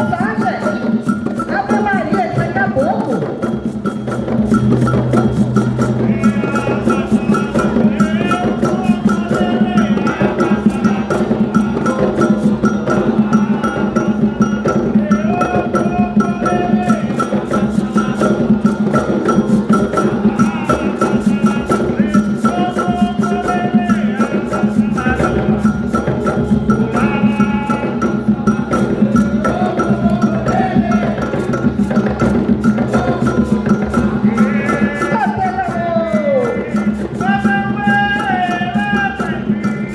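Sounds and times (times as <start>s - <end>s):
hand drums playing fast rhythm: 0.0s - 39.9s
metal bell ringing: 0.0s - 39.9s
voices singing chant phrases: 0.0s - 39.9s.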